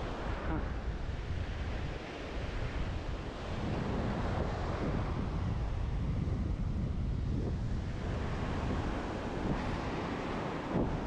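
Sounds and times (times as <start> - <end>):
surf breaking on beach: 0.0 - 11.0
wind buffeting the microphone: 0.0 - 11.0.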